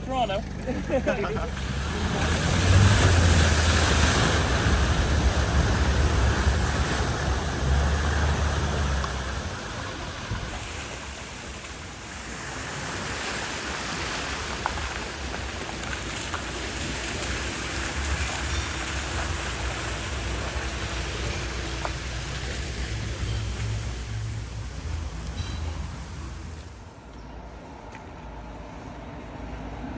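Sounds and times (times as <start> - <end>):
floodwater rushing and splashing: 0.0 - 27.0
vehicle engine rumbling: 0.0 - 29.9.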